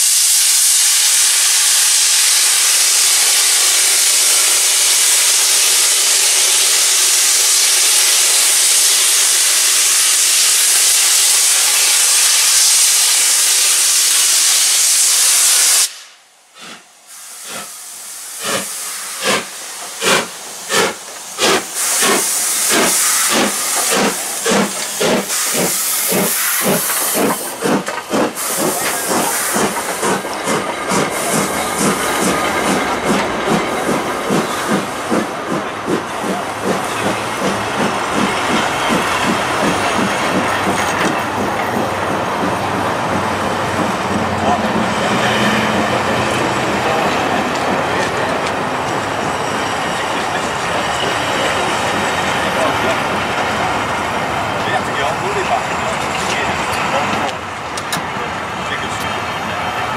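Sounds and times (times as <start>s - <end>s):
steam hissing from locomotive: 0.0s - 59.9s
steam locomotive exhaust beats: 0.0s - 59.9s.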